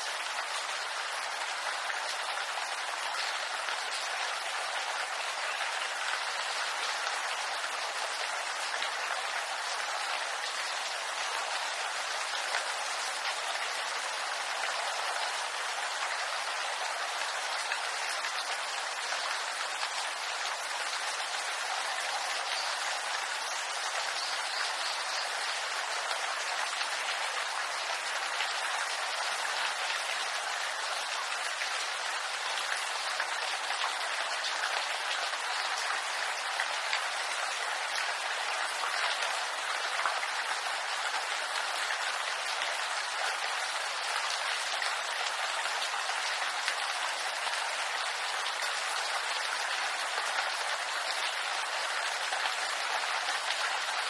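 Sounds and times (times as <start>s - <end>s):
rain on bamboo leaves: 0.0s - 54.0s.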